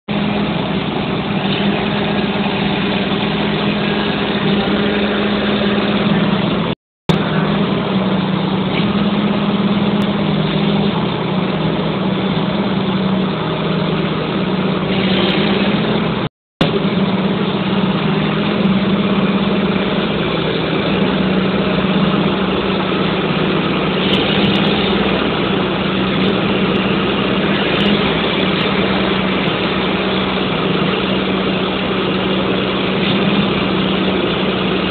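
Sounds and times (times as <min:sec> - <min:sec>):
diesel engine humming: 0:00.1 - 0:34.9.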